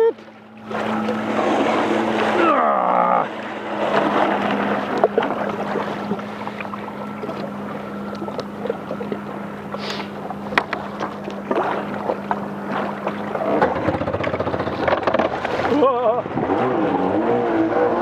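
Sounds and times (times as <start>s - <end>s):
jet ski engine running: 0.0s - 18.0s
water noise: 0.0s - 18.0s.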